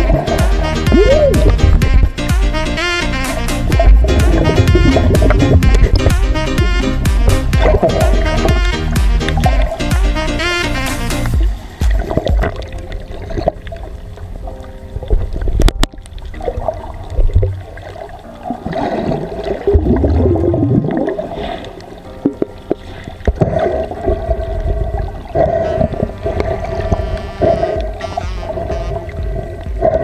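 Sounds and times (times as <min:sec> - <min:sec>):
water gurgling and sloshing: 0:00.0 - 0:30.0.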